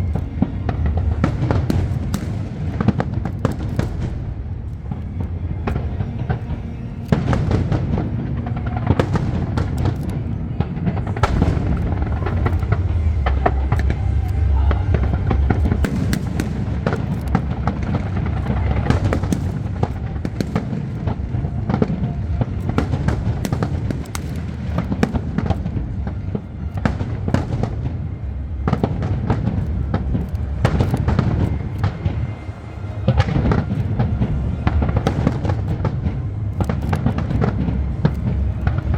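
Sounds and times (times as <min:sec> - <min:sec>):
deep rumble of booms: 0:00.0 - 0:38.9
fireworks bursts and crackling: 0:00.0 - 0:38.9
music playing: 0:00.0 - 0:38.9.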